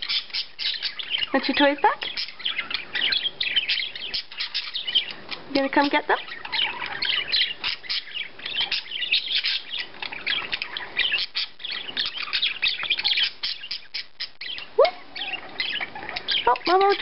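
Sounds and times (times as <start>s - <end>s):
budgie chattering and warbling: 0.0s - 17.0s.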